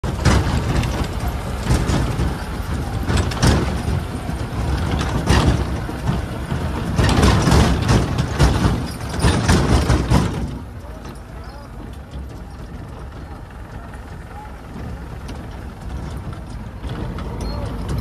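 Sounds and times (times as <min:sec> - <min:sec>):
machine knocks and rattles: 0:00.0 - 0:18.0
tractor diesel engine running: 0:00.0 - 0:18.0.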